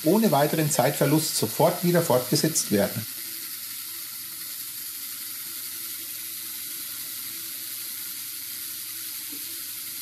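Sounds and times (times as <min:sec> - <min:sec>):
core drill cutting hiss: 0:00.0 - 0:10.0.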